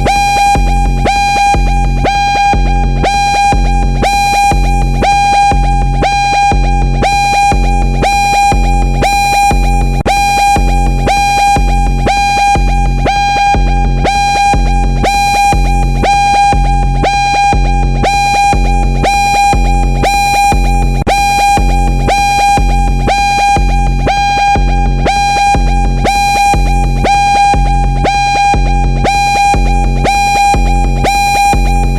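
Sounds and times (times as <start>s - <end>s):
low pulsing beat: 0.0s - 31.9s
pulsing alarm siren: 0.0s - 31.9s.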